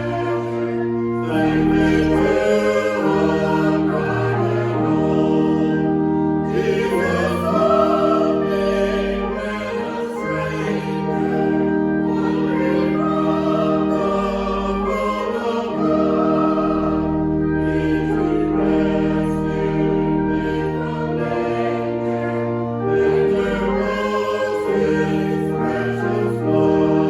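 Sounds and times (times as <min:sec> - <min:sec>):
choir singing a hymn: 0:00.0 - 0:27.0
sustained instrumental chords: 0:00.0 - 0:27.0.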